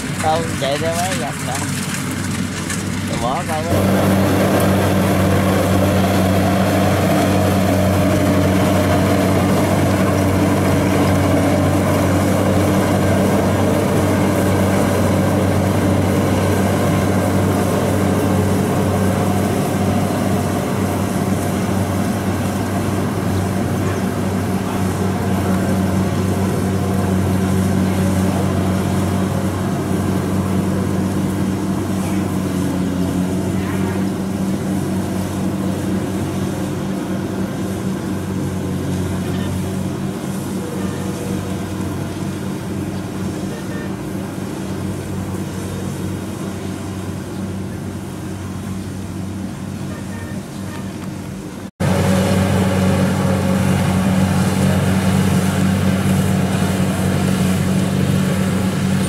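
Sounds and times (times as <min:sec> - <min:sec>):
combine harvester engine humming: 0:00.0 - 0:59.0.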